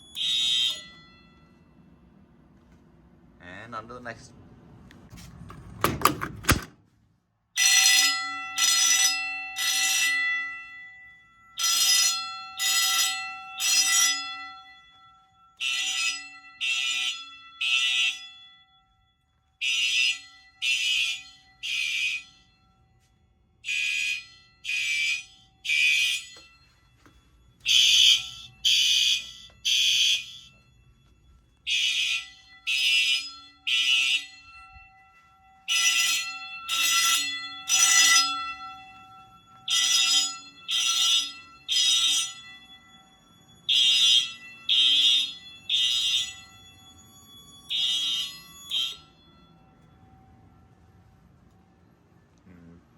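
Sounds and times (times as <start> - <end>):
fire alarm bell ringing: 0.0 - 4.3, 7.4 - 52.9.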